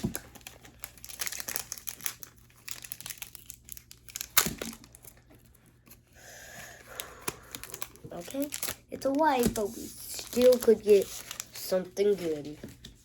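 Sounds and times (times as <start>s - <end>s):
foil wrapper crinkling: 0.0s - 6.0s, 6.8s - 13.0s.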